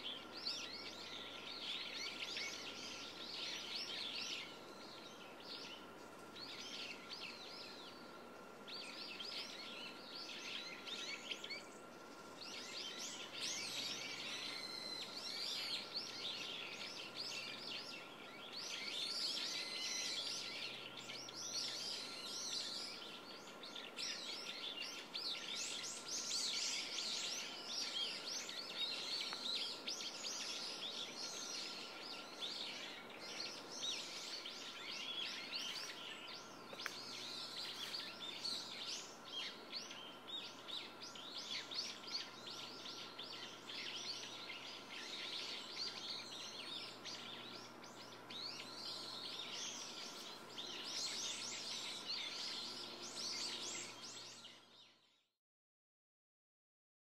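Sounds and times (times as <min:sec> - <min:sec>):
small birds chirping: 0:00.0 - 0:55.3.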